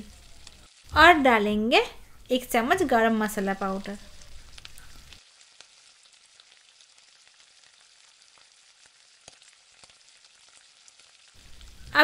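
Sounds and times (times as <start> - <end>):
gravy sizzling with tiny pops: 0.0 - 12.0.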